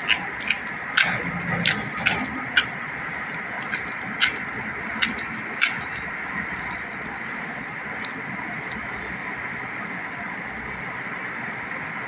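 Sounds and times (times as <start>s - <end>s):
fingers mixing food on plate: 0.0s - 10.6s.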